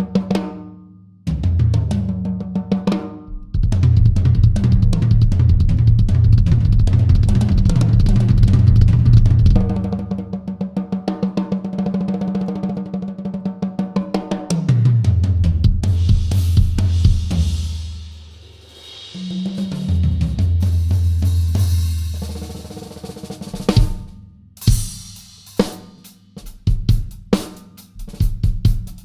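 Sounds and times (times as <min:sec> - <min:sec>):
drum kit playing: 0:01.3 - 0:11.6, 0:14.1 - 0:29.0.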